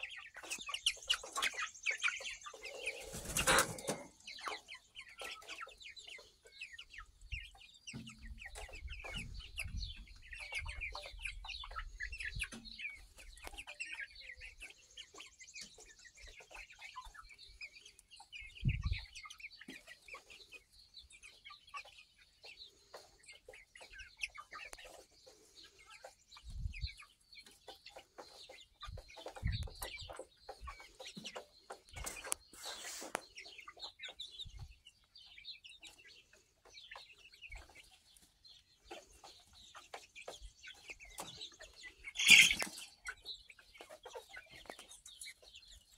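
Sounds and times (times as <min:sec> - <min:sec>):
chickens clucking softly: 0:00.0 - 0:45.9.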